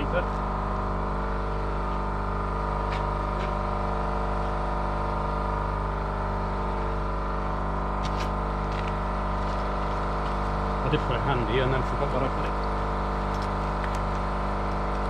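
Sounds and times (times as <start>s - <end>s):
machine motor droning: 0.0s - 15.0s.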